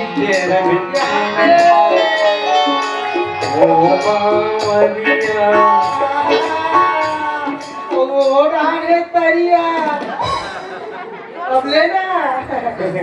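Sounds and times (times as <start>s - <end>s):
steady drum beat: 0.0s - 11.2s
harmonium melody: 0.0s - 11.7s
keyboard: 0.0s - 13.0s.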